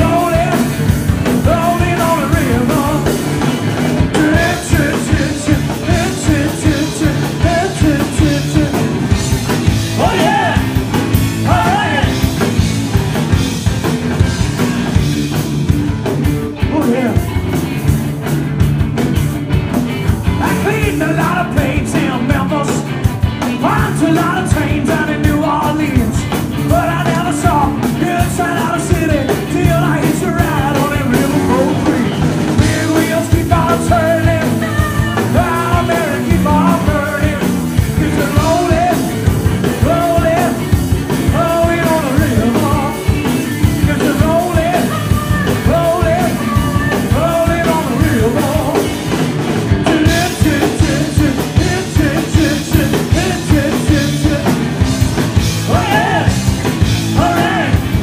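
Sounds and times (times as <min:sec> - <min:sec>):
electric guitar lead: 0:00.0 - 0:58.0
rock band playing: 0:00.0 - 0:58.0.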